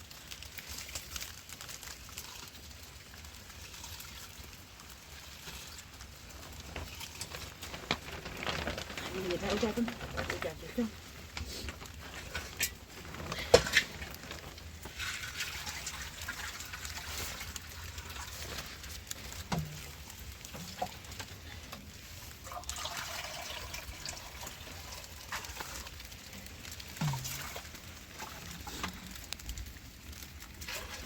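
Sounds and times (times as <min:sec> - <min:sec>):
water pouring and trickling: 0:00.0 - 0:31.0.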